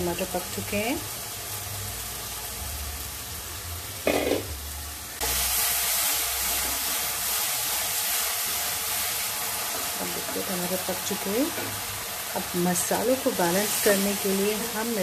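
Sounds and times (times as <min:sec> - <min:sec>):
sauce sizzling in oil: 0:00.0 - 0:15.0.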